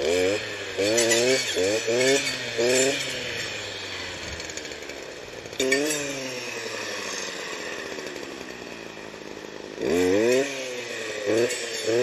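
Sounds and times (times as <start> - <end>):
brush being cut: 0.0 - 12.0
clearing saw engine revving: 0.0 - 12.0.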